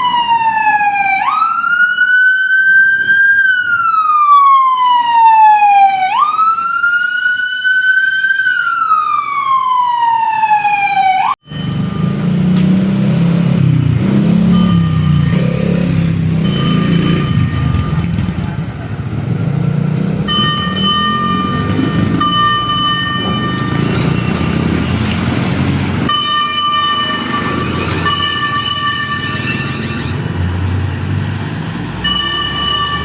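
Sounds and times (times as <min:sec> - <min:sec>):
rumble of engines and traffic: 0:00.0 - 0:33.0.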